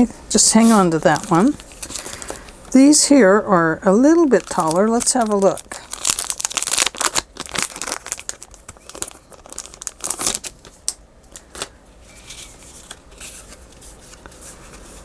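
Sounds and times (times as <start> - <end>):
paper rustling and crinkling: 0.5 - 2.8, 4.1 - 15.0.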